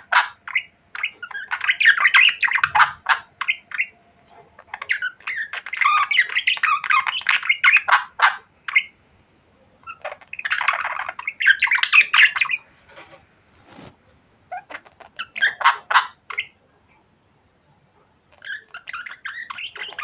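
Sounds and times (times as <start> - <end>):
budgerigars chattering and squawking: 0.0 - 9.0, 9.8 - 13.9, 14.5 - 16.6, 18.2 - 20.0.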